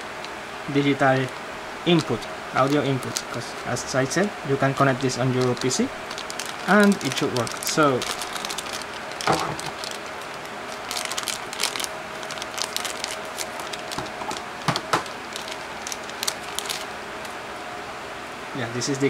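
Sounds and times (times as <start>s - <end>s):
packaging crinkling: 1.0s - 3.8s, 4.6s - 17.4s.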